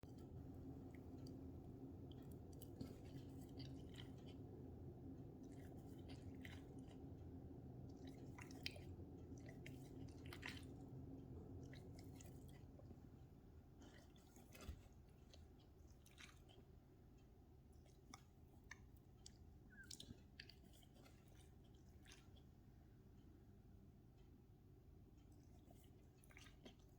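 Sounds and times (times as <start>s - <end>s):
low steady hum: 0.0s - 26.9s.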